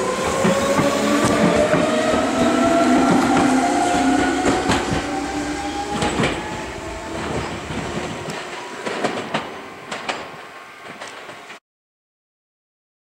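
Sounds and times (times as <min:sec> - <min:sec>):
wheels clacking over rail joints: 0:00.2 - 0:11.6.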